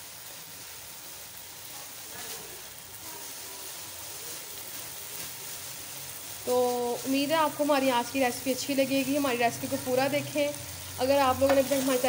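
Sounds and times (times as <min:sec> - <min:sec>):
curry sizzling in oil: 0:00.0 - 0:12.0.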